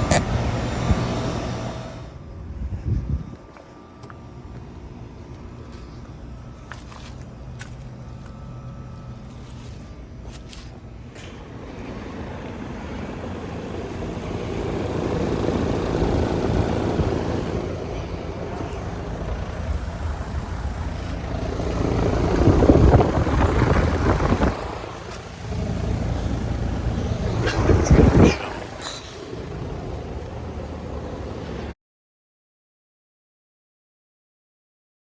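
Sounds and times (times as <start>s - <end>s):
heat pump fan whoosh and hum: 0.0s - 31.7s.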